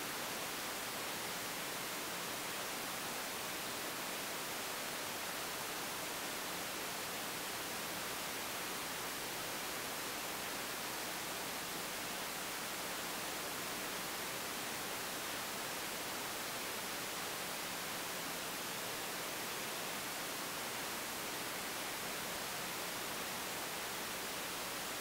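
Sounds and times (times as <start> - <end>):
recording noise hiss: 0.0 - 25.0.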